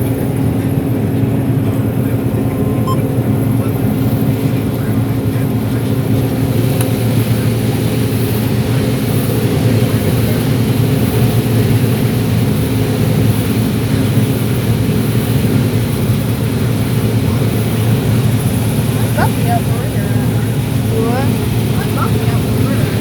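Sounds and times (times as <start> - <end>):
combine harvester drone: 0.0 - 23.0.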